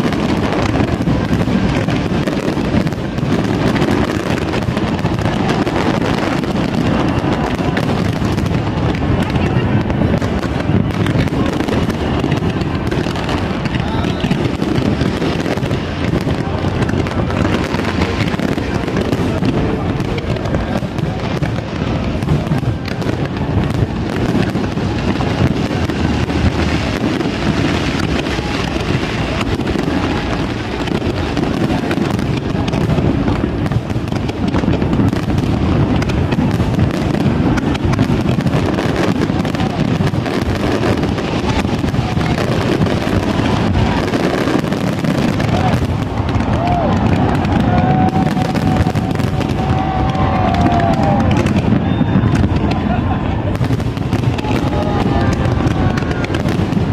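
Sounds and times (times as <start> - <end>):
fireworks bangs and crackles: 0.0 - 56.9.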